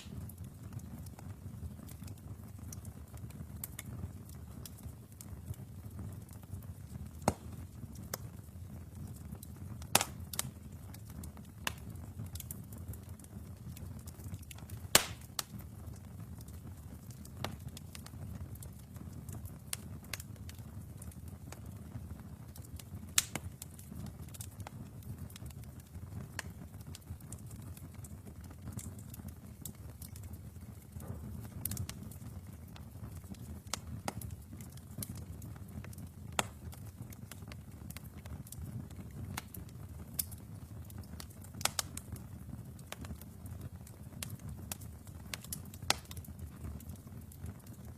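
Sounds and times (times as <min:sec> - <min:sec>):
fire popping and snapping: 0:00.0 - 0:47.9
low rumble of flames: 0:00.0 - 0:47.9.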